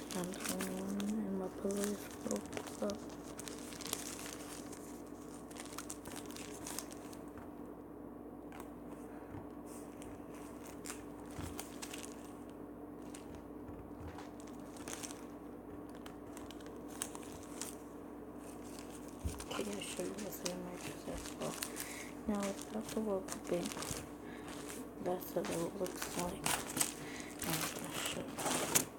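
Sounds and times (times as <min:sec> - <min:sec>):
hands rustling and crinkling: 0:00.0 - 0:07.5, 0:08.5 - 0:28.9
steady low hum: 0:00.0 - 0:28.9.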